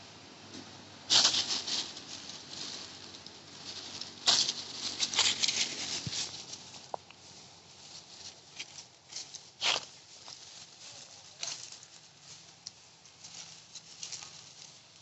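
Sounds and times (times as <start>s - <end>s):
rustling and crackling patter: 0.0s - 15.0s.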